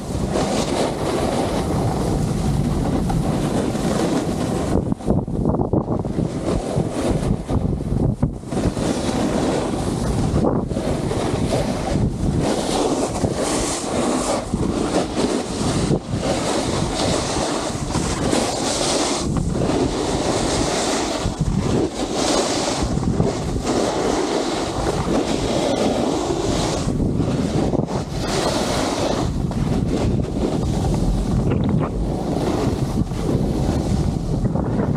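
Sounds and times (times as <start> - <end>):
skis scraping snow: 0.0 - 5.2, 6.0 - 7.6, 8.2 - 34.9
wind buffeting microphone: 0.0 - 34.9.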